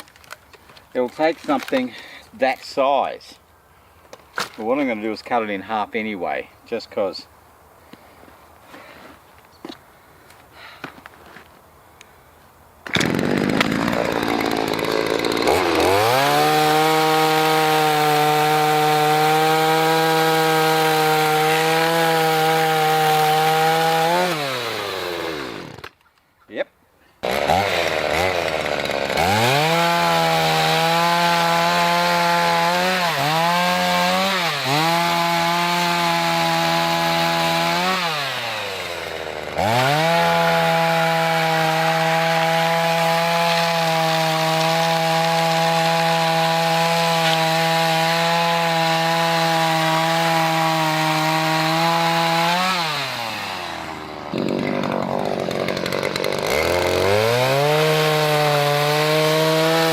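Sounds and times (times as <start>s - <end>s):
chainsaw cutting logs: 0.0s - 2.2s, 12.8s - 26.0s, 27.2s - 59.9s.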